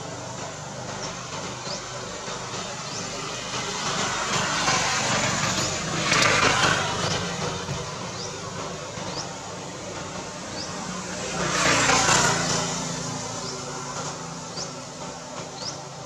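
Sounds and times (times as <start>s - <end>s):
road vehicle passing by: 0.0s - 16.0s.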